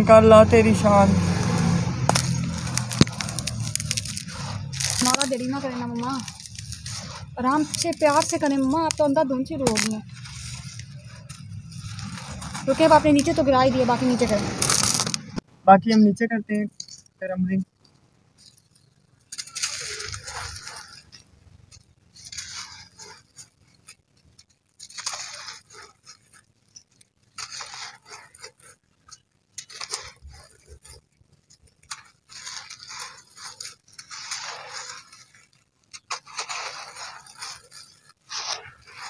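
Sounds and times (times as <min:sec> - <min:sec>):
cement chunks crunching: 0:00.8 - 0:15.4, 0:18.4 - 0:39.0.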